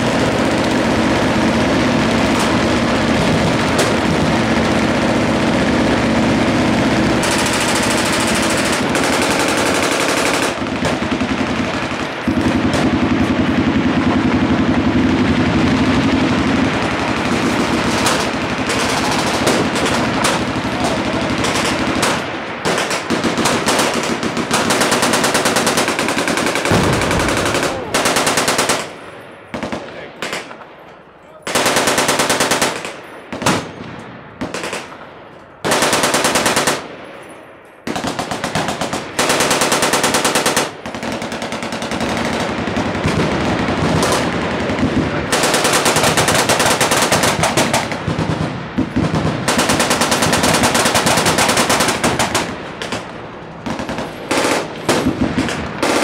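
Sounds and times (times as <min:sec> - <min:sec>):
machine guns firing bursts: 0:00.0 - 0:30.7, 0:31.4 - 0:36.9, 0:37.8 - 0:56.0.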